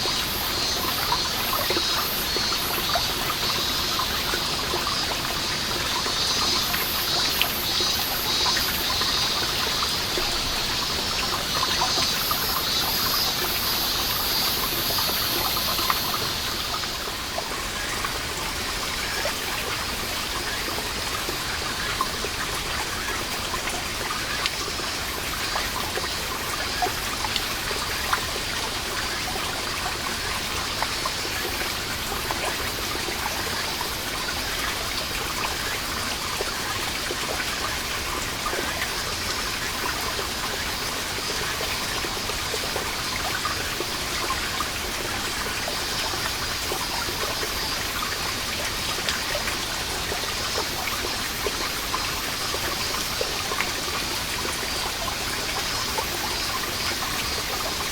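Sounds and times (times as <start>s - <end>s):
cicadas chorus: 0.0s - 57.9s
water dripping: 0.0s - 57.9s.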